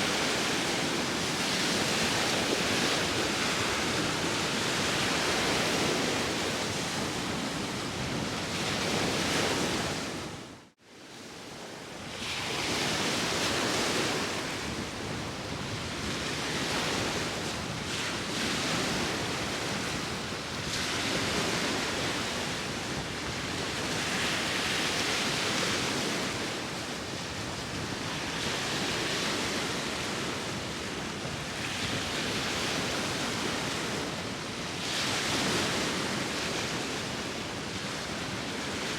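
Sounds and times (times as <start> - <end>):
sea waves washing on shore: 0.0 - 38.9
wind: 0.0 - 38.9.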